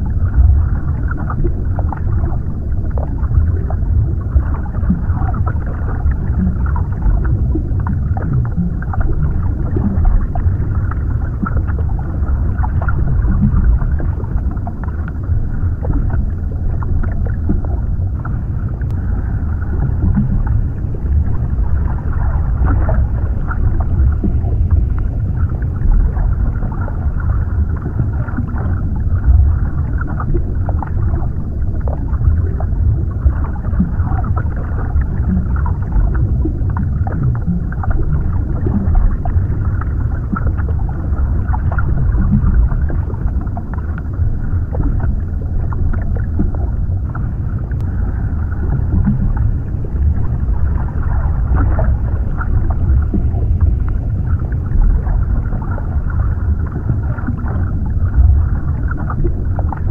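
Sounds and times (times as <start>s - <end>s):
faint underwater crackles: 0.0s - 59.9s
underwater rumble of moving water: 0.0s - 59.9s.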